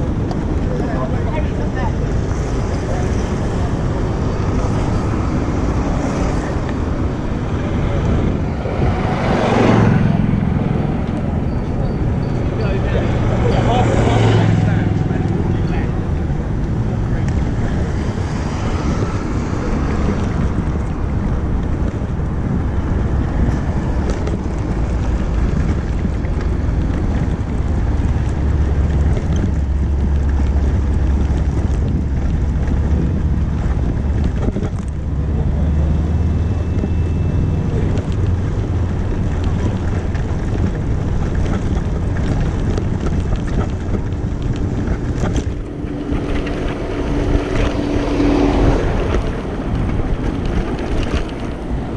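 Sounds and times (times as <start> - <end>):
road noise: 0.0 - 51.9
wind buffeting microphone: 0.0 - 51.9.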